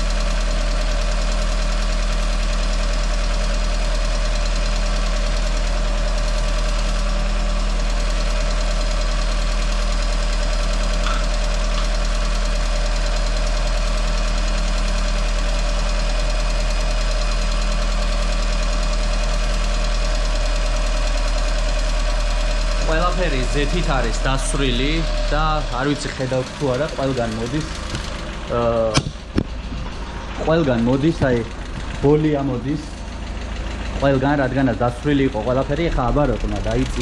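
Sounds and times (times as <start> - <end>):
car engine running: 0.0 - 37.0
engine lifters ticking: 0.0 - 37.0.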